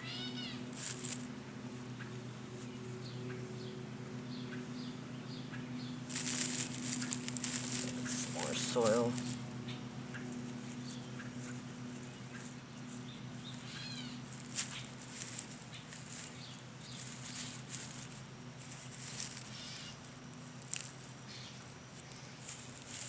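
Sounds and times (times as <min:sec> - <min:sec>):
soil rustling and scraping: 0:00.7 - 0:03.1, 0:06.0 - 0:23.0.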